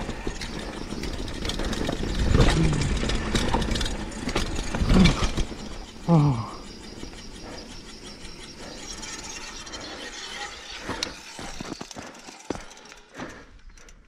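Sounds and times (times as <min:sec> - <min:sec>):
tyres rolling on gravel: 0:00.0 - 0:13.4
bicycle freehub ratcheting: 0:00.0 - 0:14.0.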